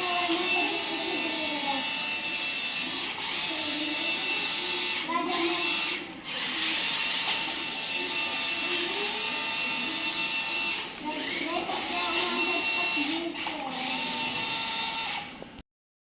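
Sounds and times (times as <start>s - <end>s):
toy tractor motor whining: 0.0s - 15.4s.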